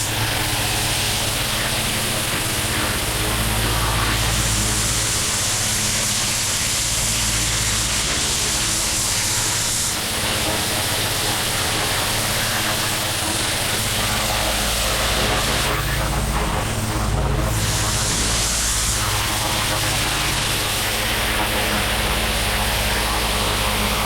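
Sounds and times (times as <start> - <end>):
pressure washer engine running: 0.0 - 24.0.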